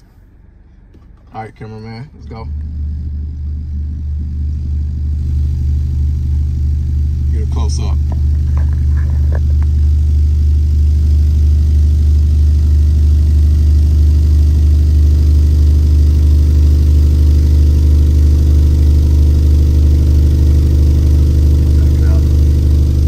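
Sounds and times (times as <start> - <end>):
subwoofer low test tone drone: 0.0 - 23.0.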